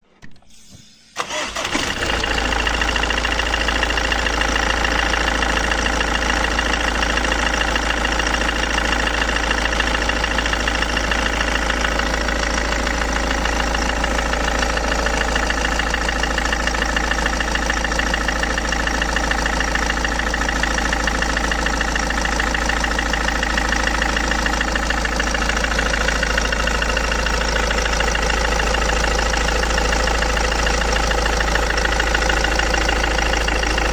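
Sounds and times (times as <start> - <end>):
diesel engine running: 1.2 - 33.9
engine knock: 1.3 - 33.9.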